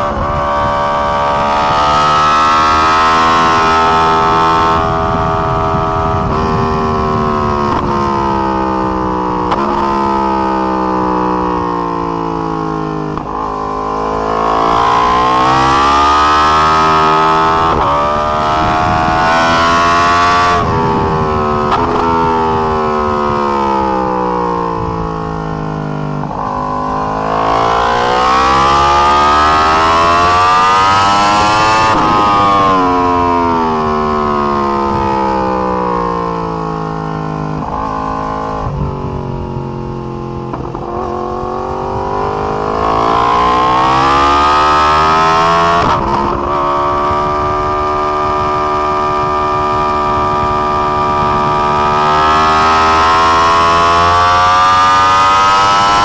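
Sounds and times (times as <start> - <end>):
wind rush: 0.0 - 11.9, 13.0 - 56.0
gear downshifts: 0.0 - 56.0
motorcycle engine revving: 0.0 - 56.0.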